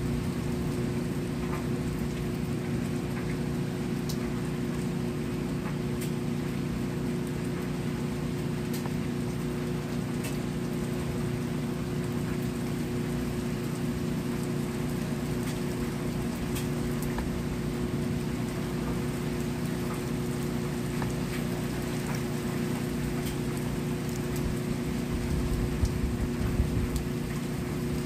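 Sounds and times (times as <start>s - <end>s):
sharp drip ticks: 0.0s - 28.0s
steady rain falling: 0.0s - 28.0s.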